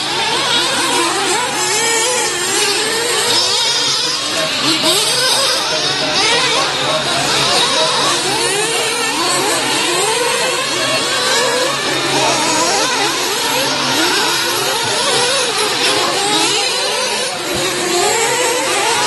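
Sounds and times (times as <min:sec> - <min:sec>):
rc car engines revving: 0:00.0 - 0:19.0.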